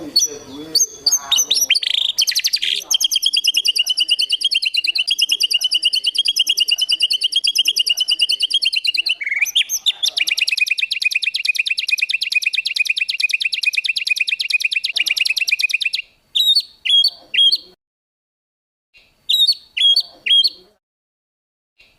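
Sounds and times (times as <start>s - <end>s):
songbird trilling: 0.0s - 17.8s, 19.3s - 20.7s.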